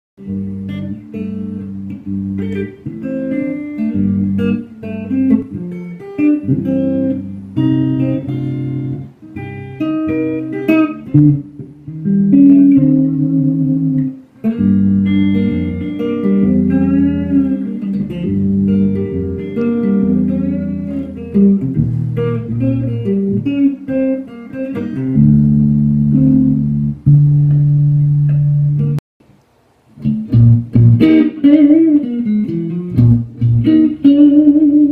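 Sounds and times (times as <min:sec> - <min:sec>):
electric guitar melody: 0:00.2 - 0:29.0, 0:29.9 - 0:34.9.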